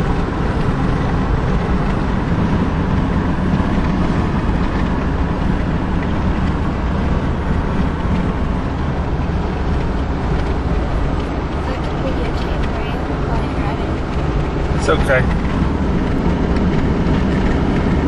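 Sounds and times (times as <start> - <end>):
car road and wind noise: 0.0 - 18.0.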